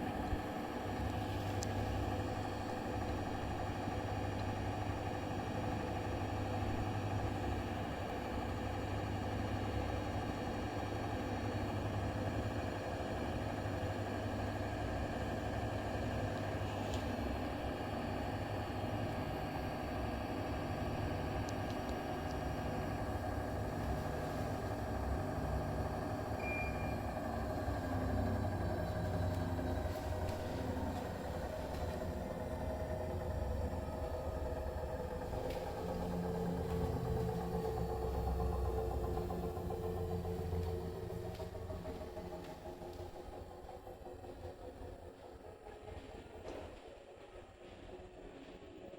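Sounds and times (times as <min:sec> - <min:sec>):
washing machine spinning: 0:00.0 - 0:48.9.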